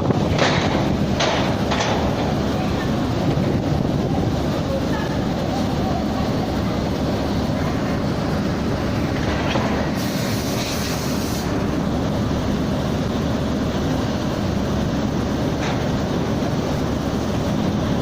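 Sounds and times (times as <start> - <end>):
strong wind blowing: 0.0 - 18.0.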